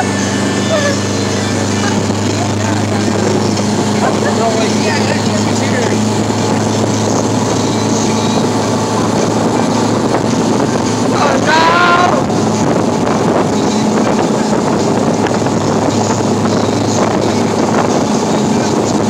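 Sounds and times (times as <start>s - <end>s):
motorboat engine hum: 0.0s - 19.0s
rush of boat wake: 0.0s - 19.0s
wind buffeting microphone: 0.0s - 19.0s.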